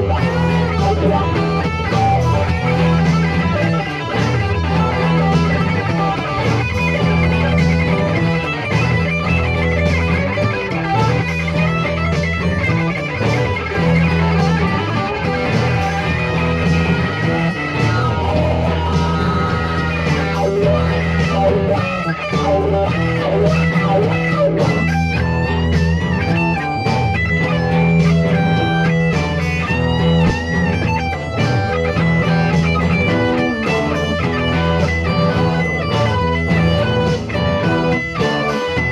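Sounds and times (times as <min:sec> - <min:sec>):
bass guitar line: 0:00.0 - 0:38.9
electric guitar playing: 0:00.0 - 0:38.9.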